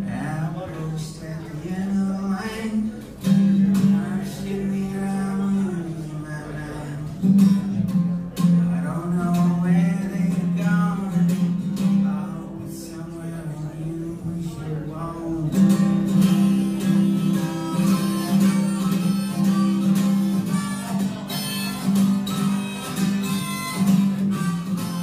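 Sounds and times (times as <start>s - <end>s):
acoustic guitar strumming: 0.0s - 25.0s
man singing: 0.0s - 25.0s.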